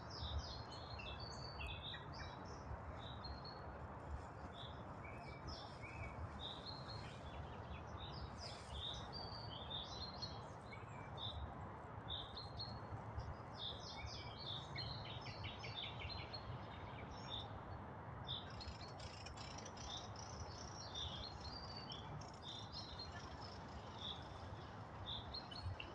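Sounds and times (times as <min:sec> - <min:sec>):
songbirds chirping: 0:00.0 - 0:25.9.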